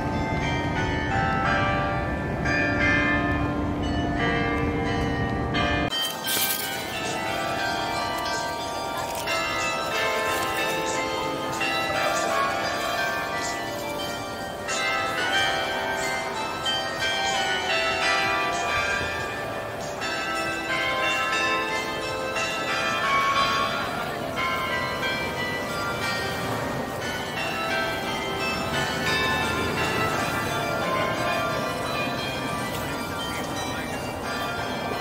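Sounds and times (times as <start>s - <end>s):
tuned bells playing melody: 0.0s - 35.0s.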